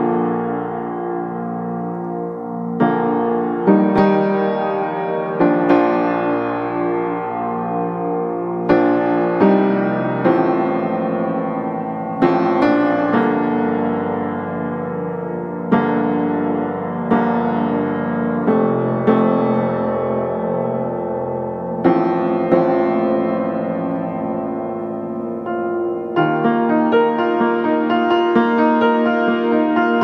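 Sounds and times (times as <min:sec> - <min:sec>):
slow piano chords: 0:00.0 - 0:30.0.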